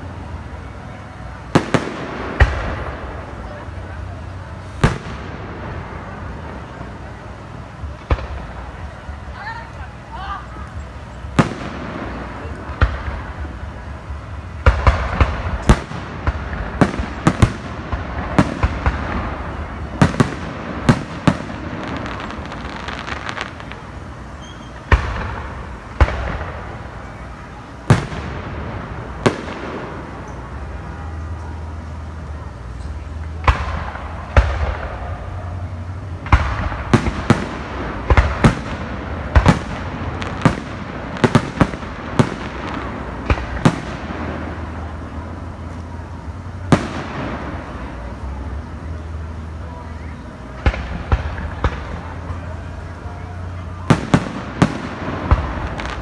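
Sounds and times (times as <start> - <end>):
fireworks bursting with echo: 0.0 - 56.0.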